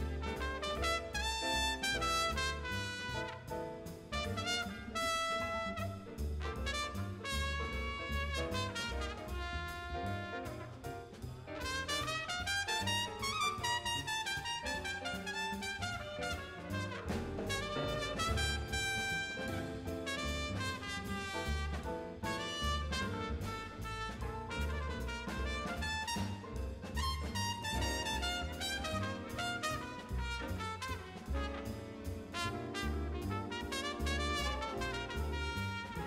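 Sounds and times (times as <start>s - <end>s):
trumpet solo: 0.0s - 10.8s, 11.6s - 36.0s
jazz big band playing: 0.0s - 36.0s
plucked double bass: 0.0s - 36.0s.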